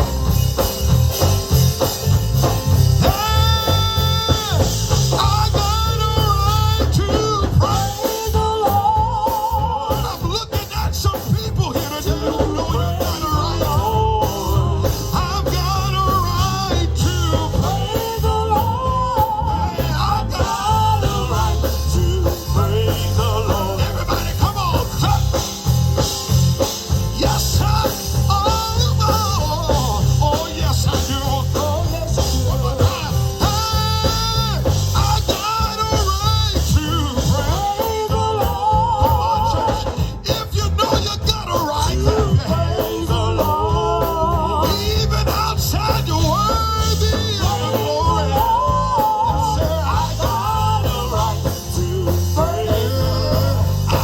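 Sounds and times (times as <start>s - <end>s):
drums and bass: 0.0s - 54.0s
organ: 0.0s - 54.0s.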